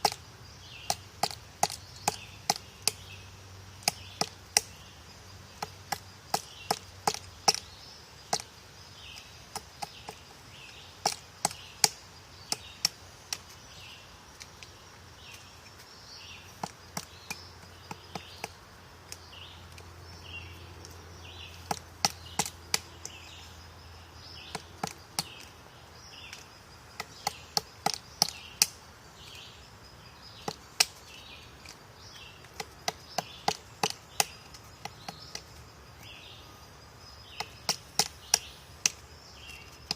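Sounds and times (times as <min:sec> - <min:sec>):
woodpecker tapping on wood: 0:00.0 - 0:23.4, 0:24.2 - 0:29.4, 0:30.1 - 0:36.2, 0:37.0 - 0:39.9.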